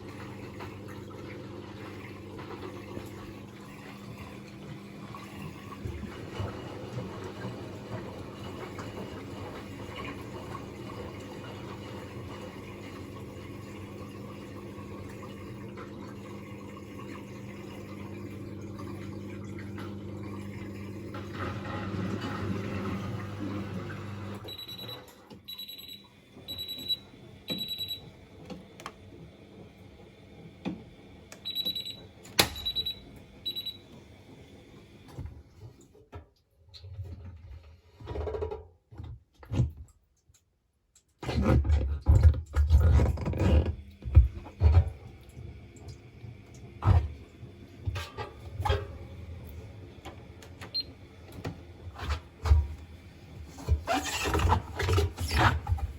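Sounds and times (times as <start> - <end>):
washing machine running: 0.0 - 40.0, 41.2 - 55.9.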